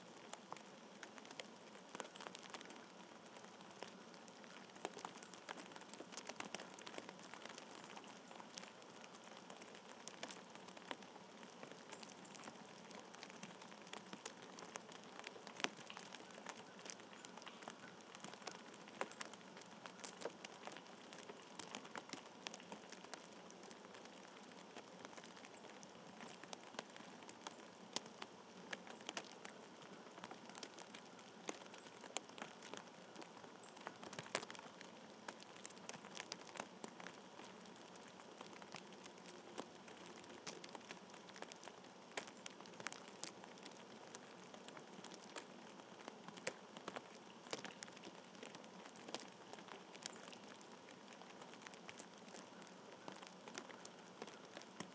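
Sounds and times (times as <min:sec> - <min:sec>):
faint outdoor hiss: 0:00.0 - 0:54.9
light precipitation pattering: 0:00.0 - 0:54.9.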